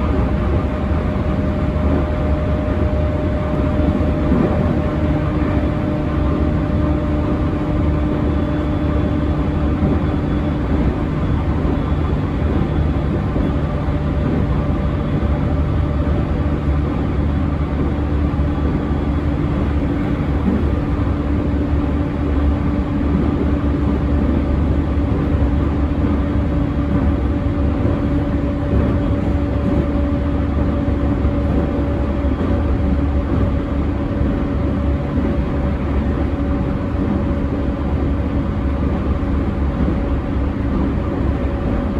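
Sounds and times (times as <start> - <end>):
steady motor hum: 0.0 - 41.9
wheels rumbling on rail: 0.0 - 41.9.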